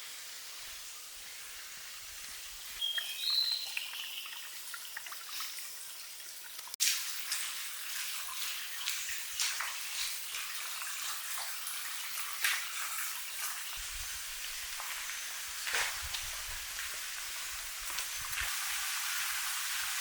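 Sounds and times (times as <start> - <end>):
water trickling: 1.2 - 18.8.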